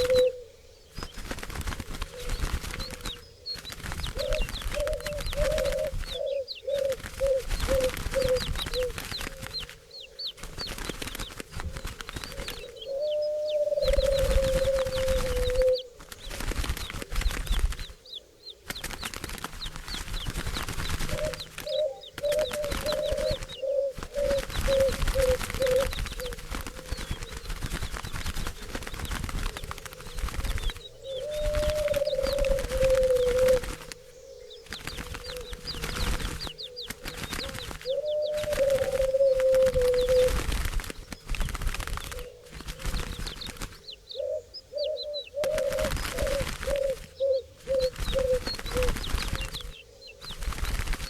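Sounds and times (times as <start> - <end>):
dove wings flapping: 0.0 - 51.0.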